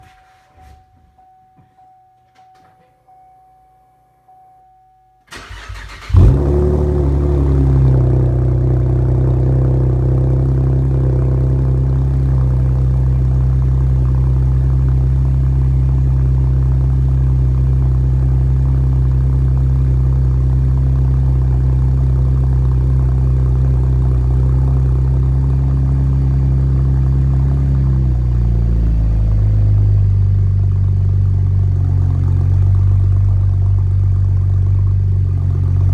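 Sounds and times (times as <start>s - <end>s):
car engine idling: 5.3s - 35.9s.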